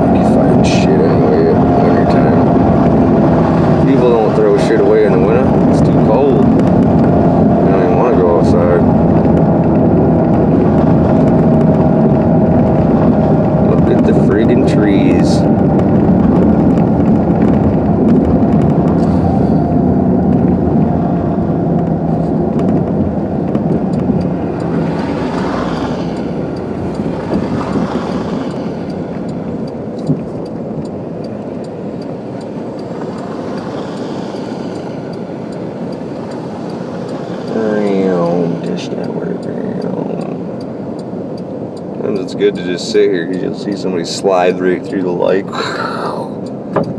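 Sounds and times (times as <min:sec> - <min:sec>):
car engine and tyre noise: 0:00.0 - 0:46.9.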